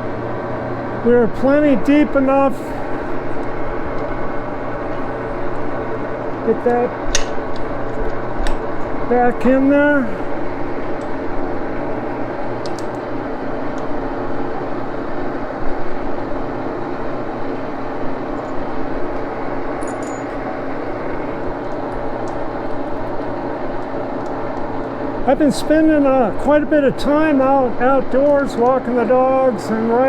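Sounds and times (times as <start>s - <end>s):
lathe humming: 0.0s - 30.0s.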